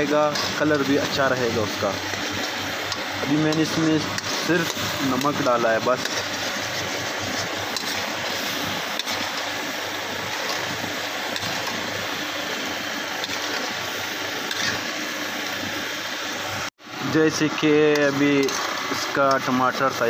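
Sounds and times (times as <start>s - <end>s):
sauce sizzling and bubbling in oil: 0.0s - 20.0s.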